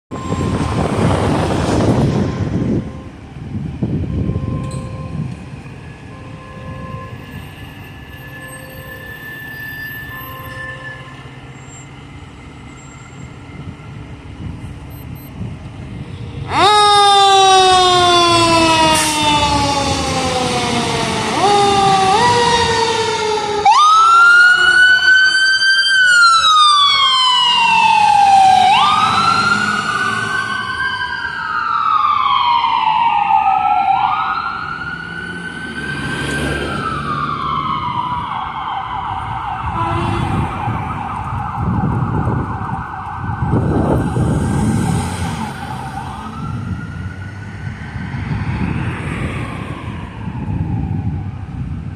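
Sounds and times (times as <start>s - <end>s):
emergency sirens wailing: 0.1s - 51.9s.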